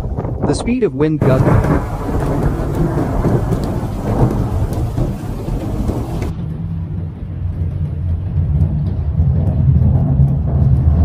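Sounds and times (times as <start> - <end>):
snowstorm wind rumbling: 0.0 - 11.0.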